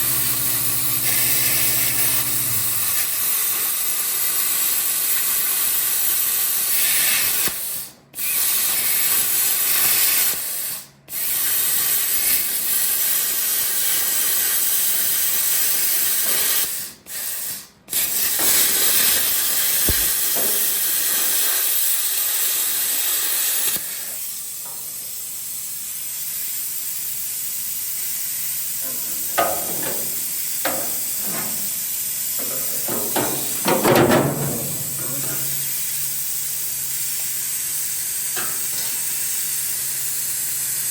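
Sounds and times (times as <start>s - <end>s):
plasma cutter hissing: 0.0s - 40.9s.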